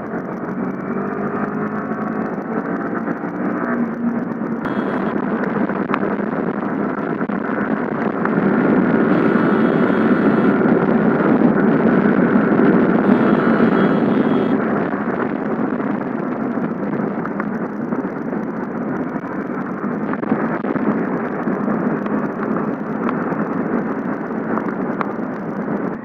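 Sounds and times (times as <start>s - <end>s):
motorcycle road noise: 0.0s - 26.0s
wind rushing over microphone: 0.0s - 26.0s.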